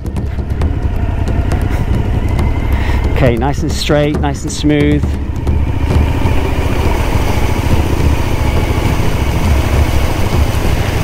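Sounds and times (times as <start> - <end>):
motorcycle engine running: 0.0 - 11.0
wheels splashing water: 0.1 - 11.0.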